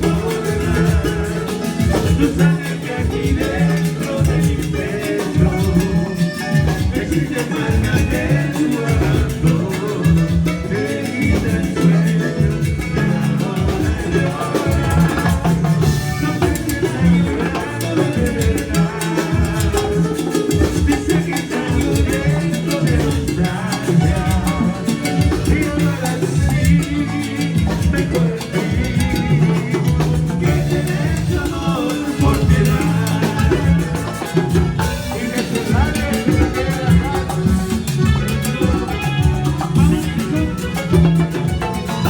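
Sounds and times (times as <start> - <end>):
drums and percussion: 0.0 - 42.0
live band playing latin dance music: 0.0 - 42.0
steady bass line: 0.0 - 42.0.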